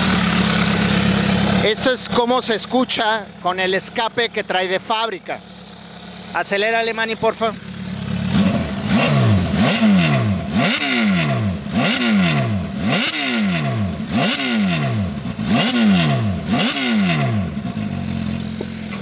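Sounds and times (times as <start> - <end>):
motorcycle engine idling: 0.0 - 19.0
motorcycle engine revving: 0.0 - 19.0.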